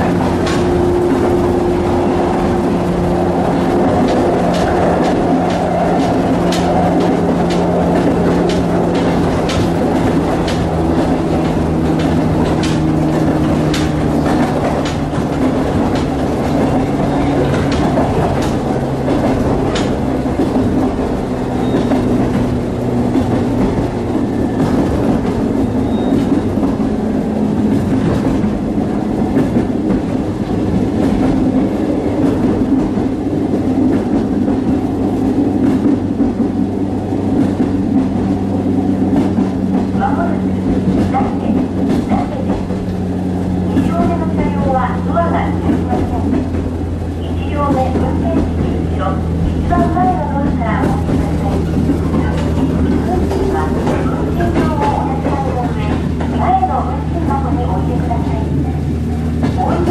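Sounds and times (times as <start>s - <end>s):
clickety-clack over rail joints: 0.0s - 59.9s
level train hum: 0.0s - 59.9s
rumble of wheels on rail: 0.0s - 59.9s.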